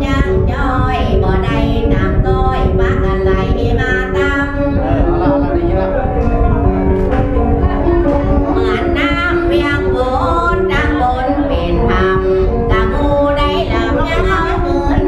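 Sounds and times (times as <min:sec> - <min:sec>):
plucked and bowed strings: 0:01.5 - 0:15.0.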